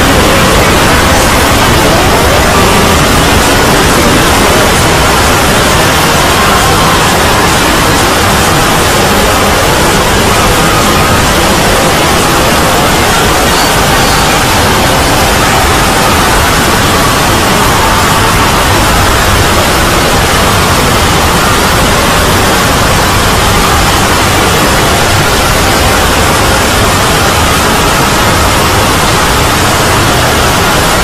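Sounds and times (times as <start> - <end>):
loud static-like noise: 0.0 - 31.0.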